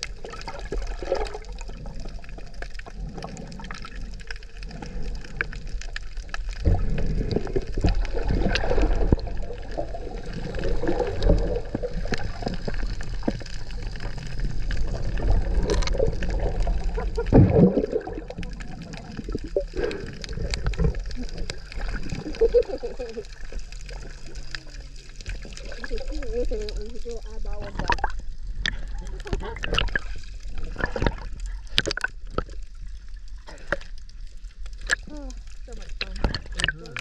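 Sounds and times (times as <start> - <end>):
muffled underwater sloshing: 0.0 - 37.0.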